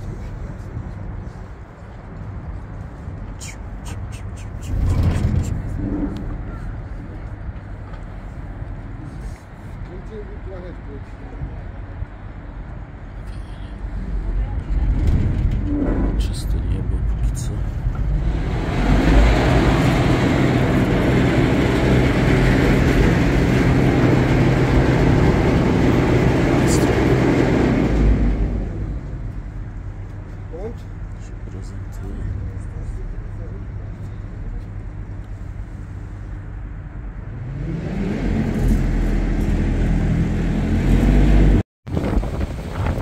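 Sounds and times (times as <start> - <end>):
moving vehicle rumble: 0.0 - 43.0.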